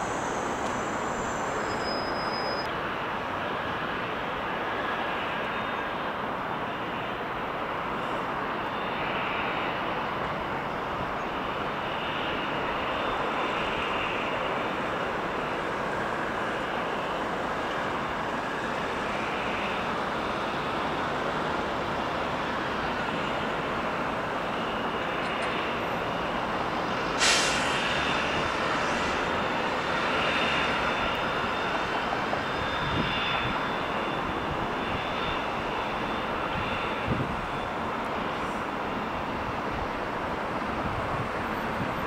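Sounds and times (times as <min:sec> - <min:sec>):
jet engines whining: 0:00.0 - 0:42.0.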